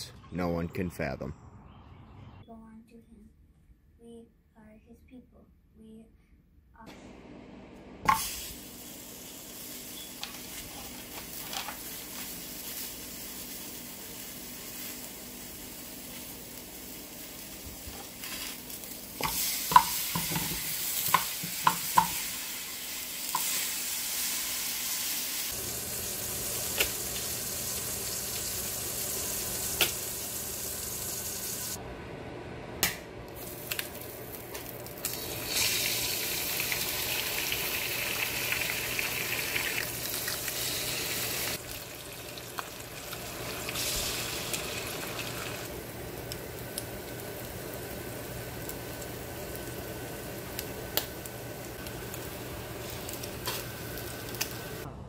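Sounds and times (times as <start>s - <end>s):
meat sizzling in a pan: 8.1s - 31.8s, 33.4s - 54.9s.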